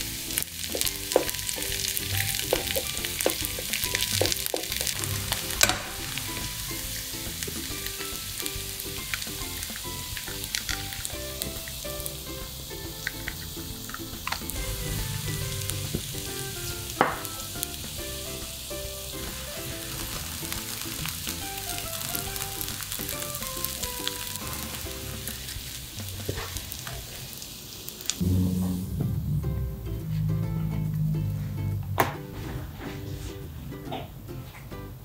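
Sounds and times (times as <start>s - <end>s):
light background music: 0.0s - 26.4s, 28.2s - 35.0s
food sizzling in a pan: 0.0s - 28.3s.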